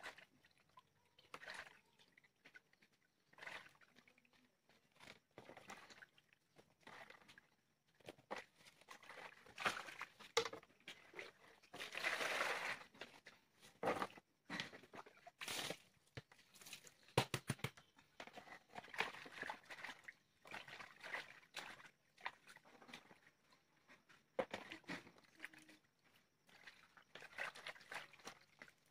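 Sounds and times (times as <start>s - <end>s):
water sloshing in a plastic basin: 0.0s - 28.9s.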